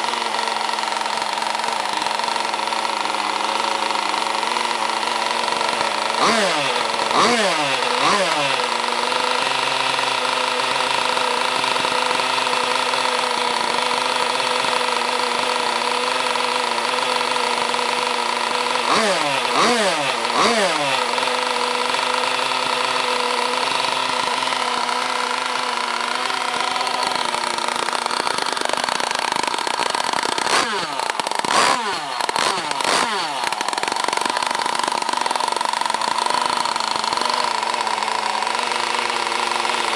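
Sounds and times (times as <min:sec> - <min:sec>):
two-stroke boat engine idling and revving: 0:00.0 - 0:39.9.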